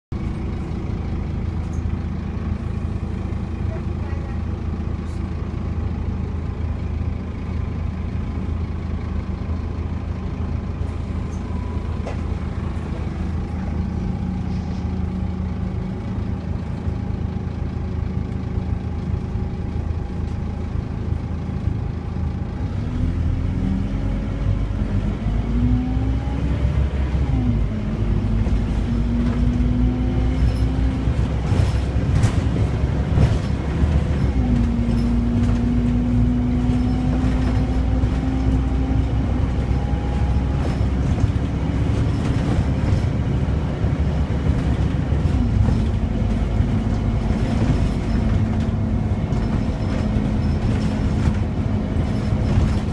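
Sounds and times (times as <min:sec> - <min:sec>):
bus diesel engine: 0:00.0 - 0:52.9.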